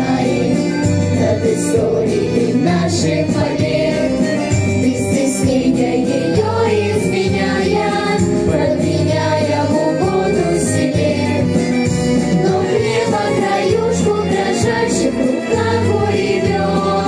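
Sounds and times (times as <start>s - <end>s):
instrumental backing track: 0.0s - 17.0s
vocal group singing: 0.0s - 17.0s.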